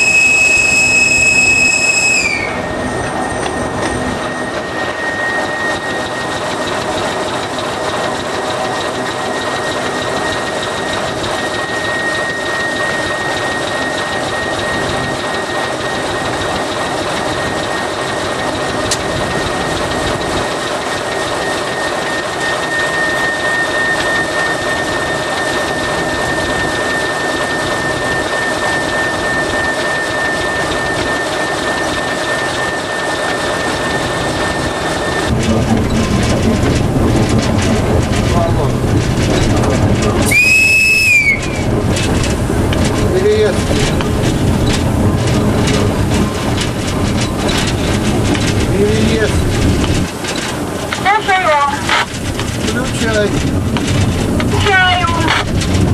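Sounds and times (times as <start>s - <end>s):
high-pitched whine: 0.0s - 55.9s
locomotive diesel engine running: 0.0s - 55.9s.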